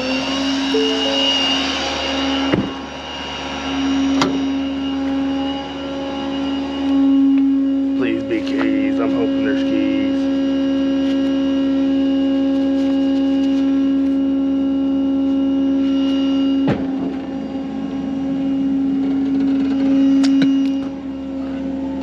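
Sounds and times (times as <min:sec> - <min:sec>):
truck engine drone from inside cab: 0:00.0 - 0:22.0.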